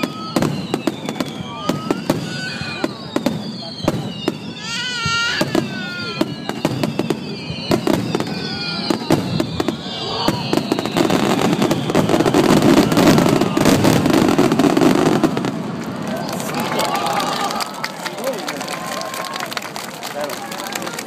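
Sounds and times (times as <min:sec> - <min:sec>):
fireworks cracking and popping: 0:00.0 - 0:21.0.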